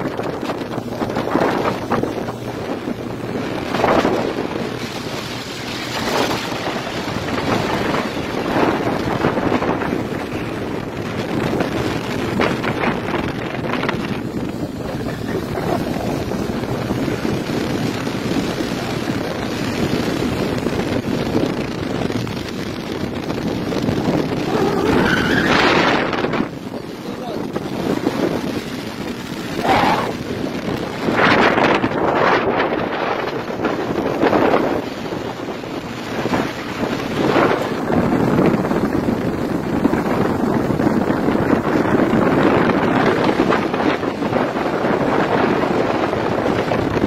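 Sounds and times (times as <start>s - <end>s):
boat engine running: 0.0s - 47.0s
wind gusting on microphone: 0.0s - 47.0s.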